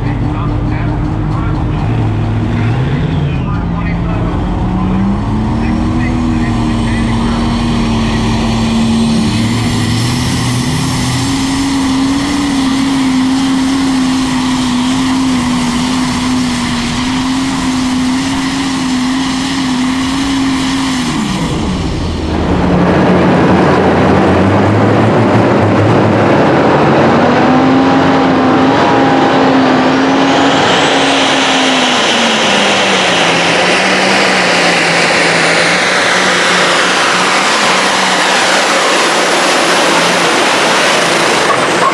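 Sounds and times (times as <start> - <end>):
diesel tractor engine at full throttle: 0.0 - 41.9
high whine: 0.0 - 41.9.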